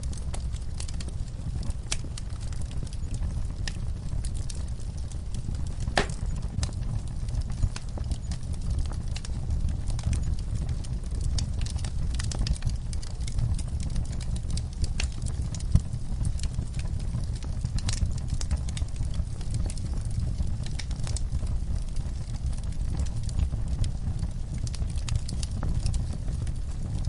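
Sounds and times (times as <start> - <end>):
log fire crackling: 0.0 - 27.0
low rumble of flames: 0.0 - 27.0.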